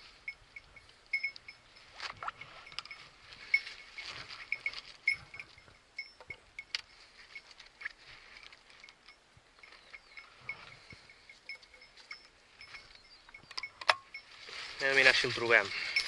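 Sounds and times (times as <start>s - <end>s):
dry stalks and leaves rustling: 0.0s - 16.0s
short high clinks: 0.0s - 16.0s.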